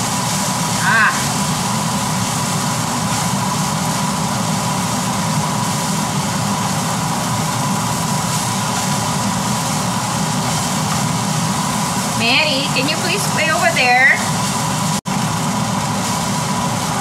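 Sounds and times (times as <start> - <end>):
fried rice hissing in a wok: 0.0 - 17.0.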